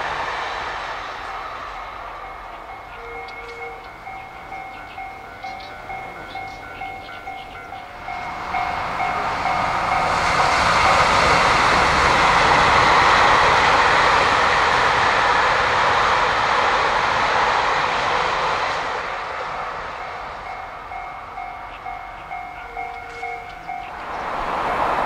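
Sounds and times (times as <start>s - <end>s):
train passing on rails: 0.0s - 25.0s.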